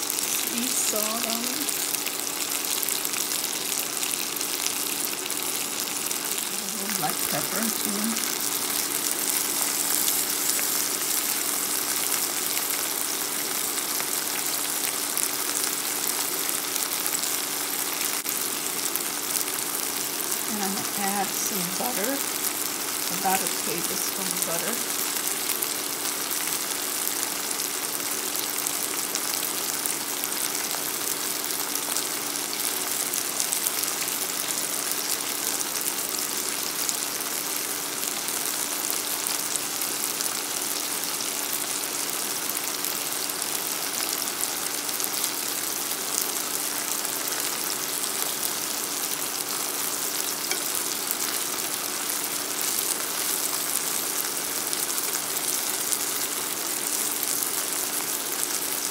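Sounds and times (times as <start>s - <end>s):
vegetables sizzling in oil: 0.0s - 58.9s.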